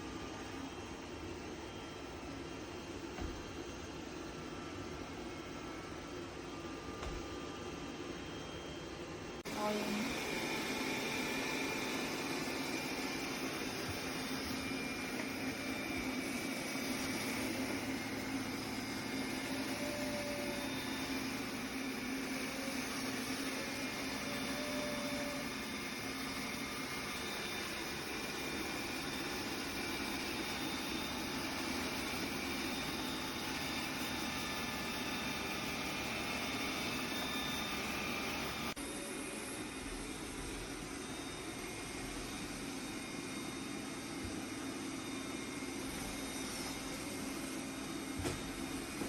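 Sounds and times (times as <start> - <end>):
robot vacuum motor hum: 9.5 - 49.0.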